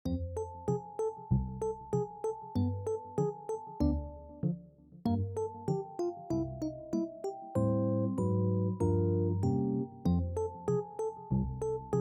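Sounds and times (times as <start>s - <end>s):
keyboard tune over held chords: 0.0s - 12.0s.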